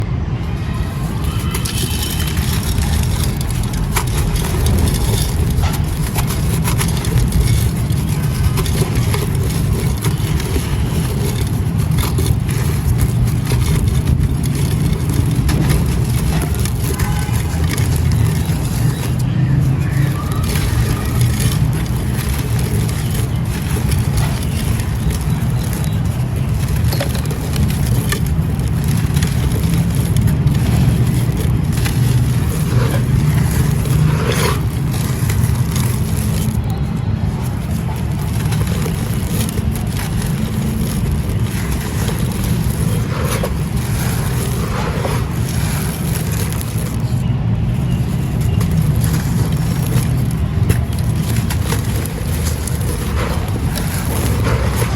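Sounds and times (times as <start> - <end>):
clay and sand crumbling: 0.0 - 54.9.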